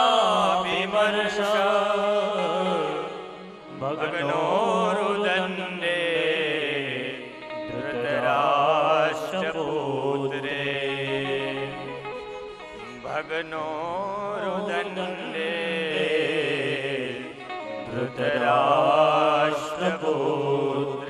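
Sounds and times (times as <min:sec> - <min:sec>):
harmonium drone: 0:00.0 - 0:21.0.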